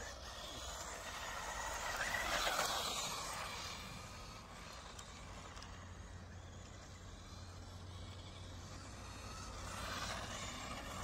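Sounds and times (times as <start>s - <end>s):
toy car motor and tyres whirring: 0.0s - 11.0s.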